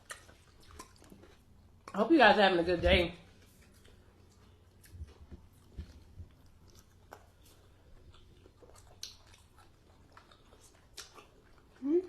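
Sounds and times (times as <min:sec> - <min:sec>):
chewing and mouth sounds: 0:00.0 - 0:02.0, 0:03.3 - 0:12.0.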